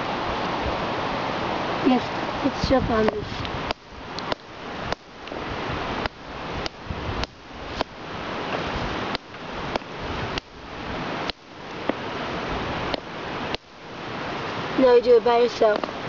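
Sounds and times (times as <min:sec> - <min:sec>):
loud steady hiss: 0:00.0 - 0:16.0.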